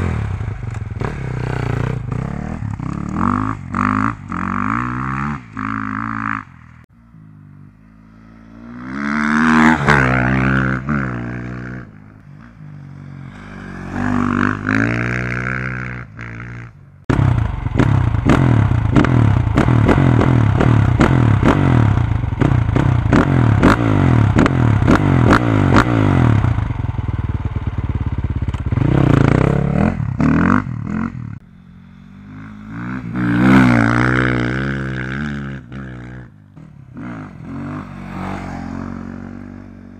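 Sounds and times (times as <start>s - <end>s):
dirt bike engine revving: 0.0s - 6.8s, 7.9s - 39.9s.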